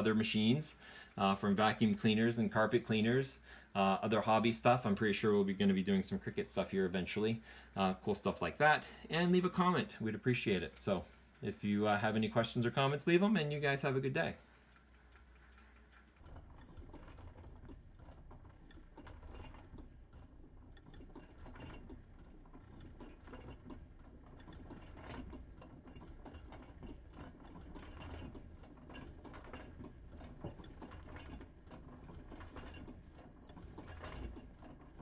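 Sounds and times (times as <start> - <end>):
low motor hum: 0.0 - 35.0
sewing machine rattling: 0.0 - 35.0.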